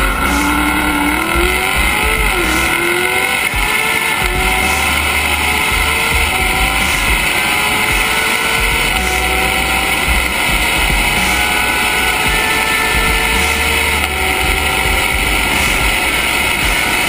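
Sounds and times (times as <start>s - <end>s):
car engine accelerating hard: 0.0s - 17.0s
gear upshifts: 0.0s - 17.0s.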